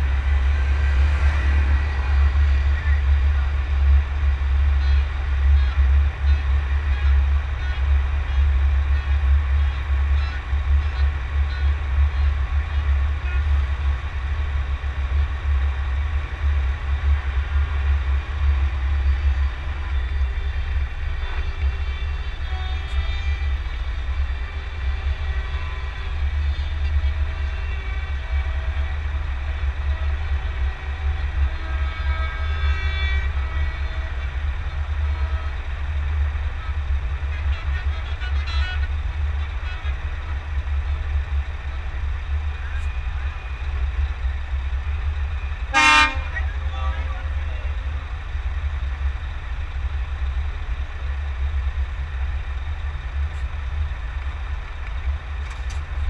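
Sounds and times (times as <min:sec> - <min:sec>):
truck engine rumble: 0:00.0 - 0:56.0.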